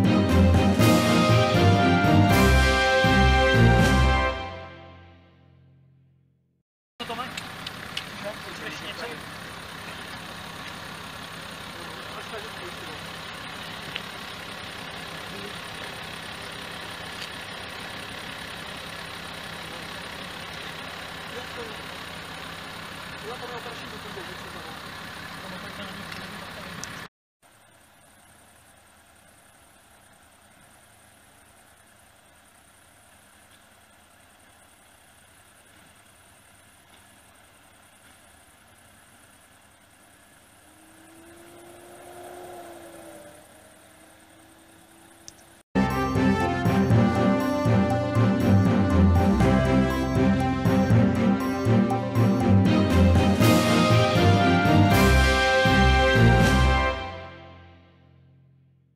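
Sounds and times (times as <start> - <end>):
vehicle engine idling: 7.0 - 57.1.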